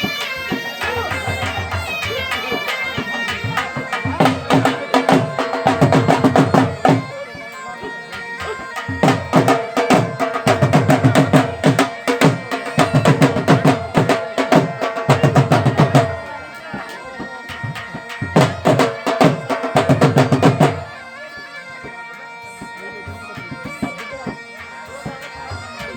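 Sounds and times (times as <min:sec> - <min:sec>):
bagpipes playing droning melody: 0:00.0 - 0:25.9.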